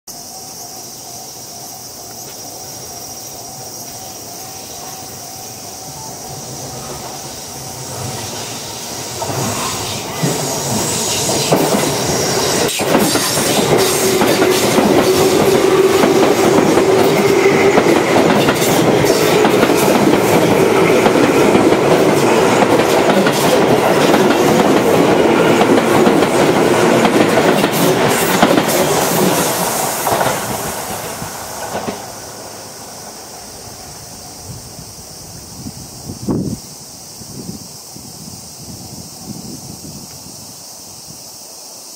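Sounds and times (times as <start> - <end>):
electric train passing: 0.2 - 41.9.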